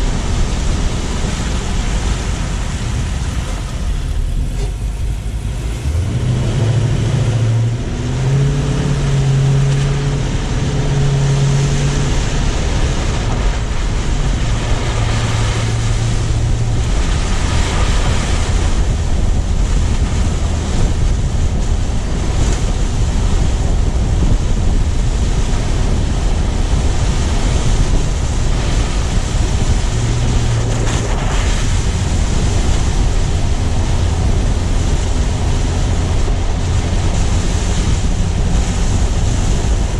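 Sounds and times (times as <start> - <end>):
low engine hum: 0.0 - 39.9
tyres rumbling on road: 0.0 - 39.9
wind buffeting microphone: 0.0 - 39.9.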